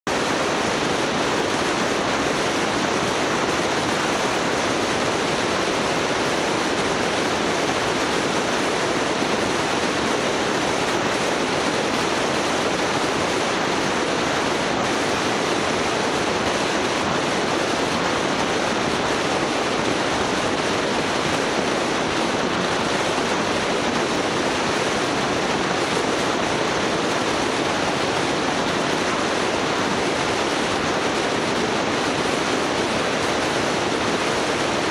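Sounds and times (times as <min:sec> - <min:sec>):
steady rushing noise: 0:00.1 - 0:34.9.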